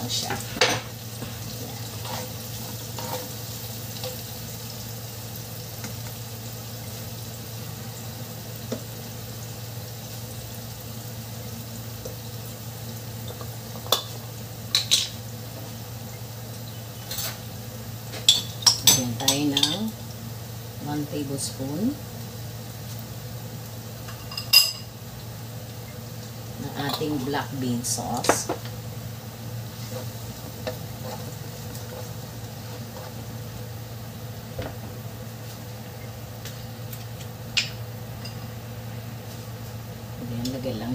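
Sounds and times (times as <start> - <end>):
food sizzling in oil: 0.0 - 40.9.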